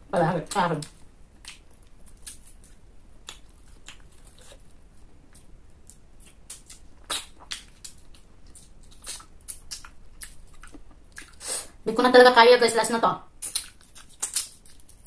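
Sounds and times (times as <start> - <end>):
mouth smacks and crunchy bites: 0.5 - 11.4, 13.4 - 15.0.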